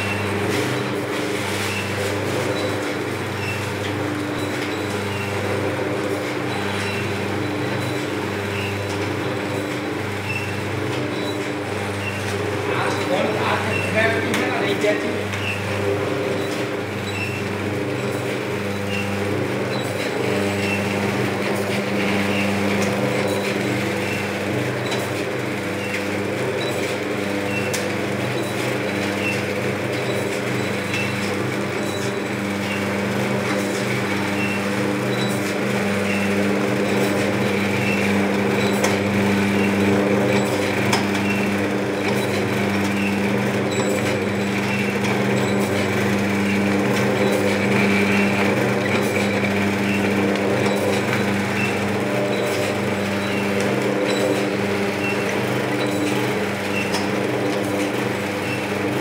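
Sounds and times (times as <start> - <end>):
machine motor hum: 0.0 - 59.0.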